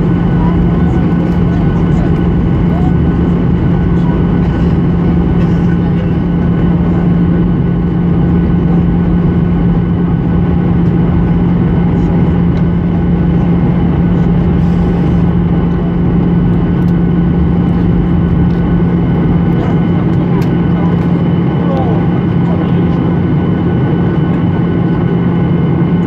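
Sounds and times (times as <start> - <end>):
airplane cabin engine drone: 0.0 - 26.0
constant low hum: 0.0 - 26.0.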